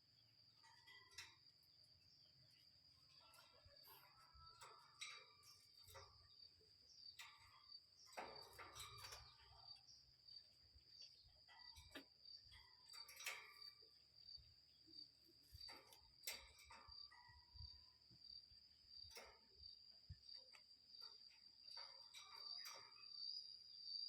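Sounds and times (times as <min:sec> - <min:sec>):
high-pitched insect trill: 0:00.0 - 0:24.0
bird chirps and clicks: 0:00.2 - 0:24.0.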